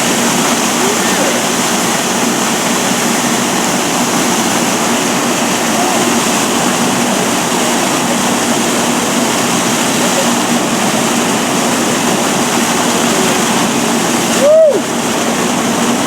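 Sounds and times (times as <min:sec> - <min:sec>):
water gushing from fire hydrant: 0:00.0 - 0:16.0.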